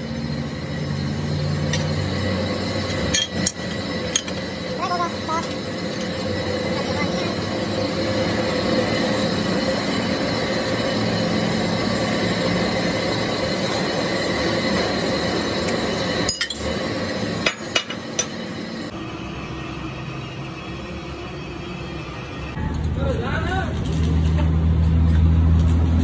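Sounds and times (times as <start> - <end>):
workshop hum: 0.0 - 26.0.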